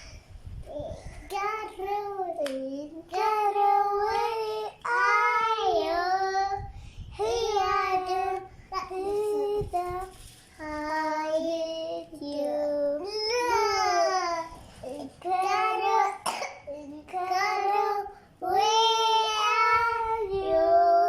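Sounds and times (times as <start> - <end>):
young child singing: 0.7 - 21.0.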